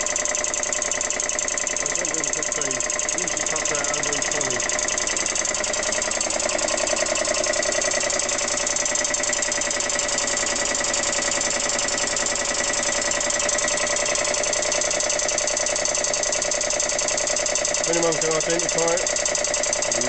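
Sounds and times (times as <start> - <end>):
air compressor running: 0.0 - 20.0.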